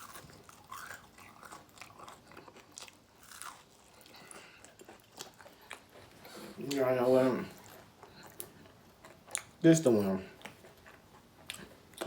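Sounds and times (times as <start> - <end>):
person chewing crunchy food: 0.0 - 9.6, 10.3 - 12.0.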